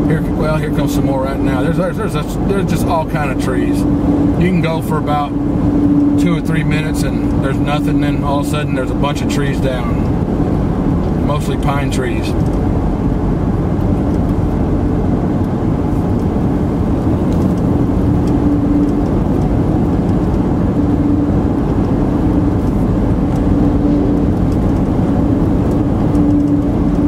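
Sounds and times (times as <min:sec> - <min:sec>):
car engine and road noise: 0:00.0 - 0:27.0
hum: 0:00.0 - 0:27.0.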